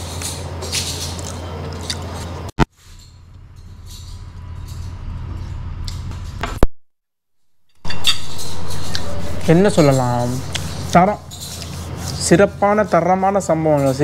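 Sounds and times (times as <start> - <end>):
low room hum: 0.0 - 6.6, 7.4 - 14.0.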